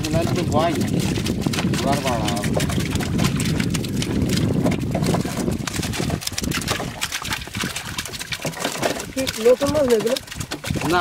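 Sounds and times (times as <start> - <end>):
prawns clicking and spattering: 0.0 - 11.0
water splashing: 0.0 - 11.0.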